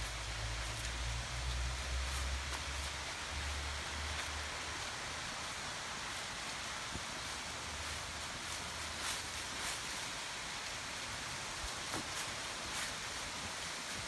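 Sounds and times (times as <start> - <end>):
footsteps on fallen leaves: 0.0 - 14.0.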